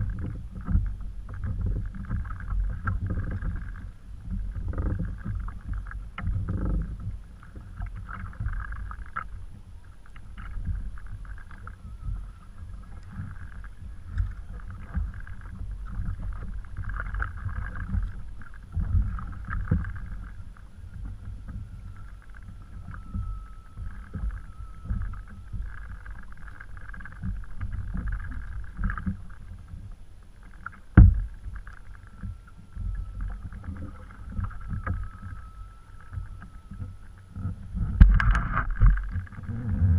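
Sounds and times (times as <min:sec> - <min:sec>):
low rumble: 0:00.0 - 0:39.9
water lapping against kayak hull: 0:00.0 - 0:39.9.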